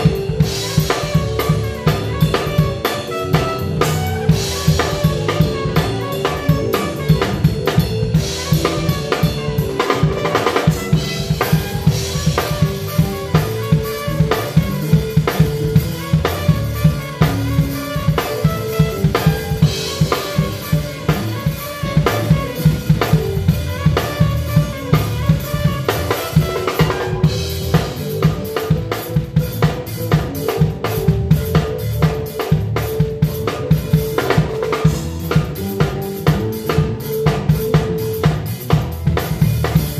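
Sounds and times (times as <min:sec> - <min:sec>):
drum kit groove: 0:00.0 - 0:39.9
gospel band instruments: 0:00.0 - 0:39.9.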